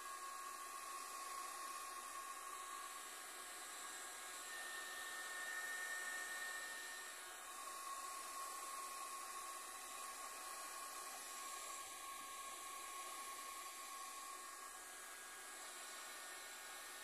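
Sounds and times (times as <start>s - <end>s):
heat gun blowing air: 0.0s - 17.0s
thin steady whine: 0.0s - 17.0s.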